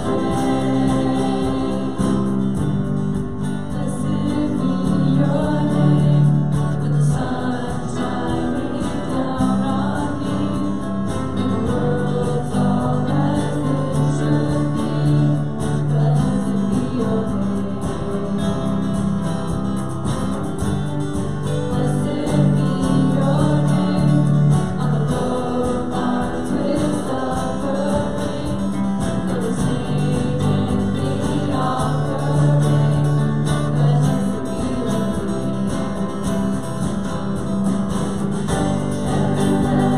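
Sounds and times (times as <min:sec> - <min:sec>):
group singing worship song: 0:00.0 - 0:39.9
instrumental accompaniment: 0:00.0 - 0:39.9.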